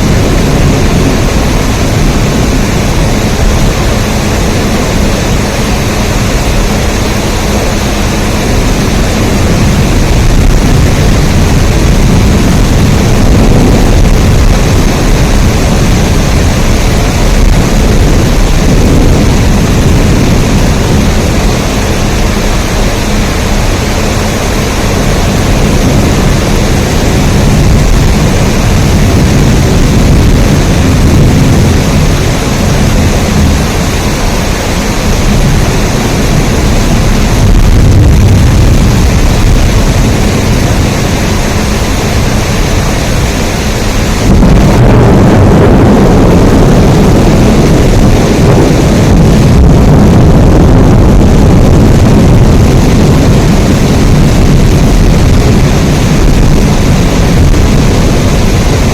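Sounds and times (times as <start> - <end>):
heavy rain: 0.0 - 58.9.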